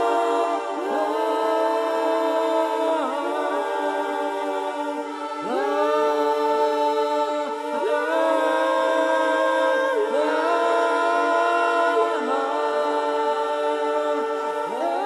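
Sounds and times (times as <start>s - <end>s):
a cappella choir singing: 0.0s - 15.0s.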